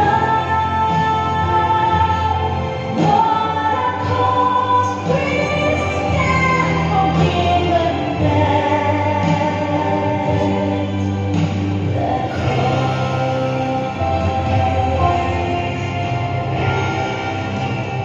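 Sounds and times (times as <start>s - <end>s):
choir singing gospel song: 0.0s - 18.0s
steady bass accompaniment: 0.0s - 18.0s.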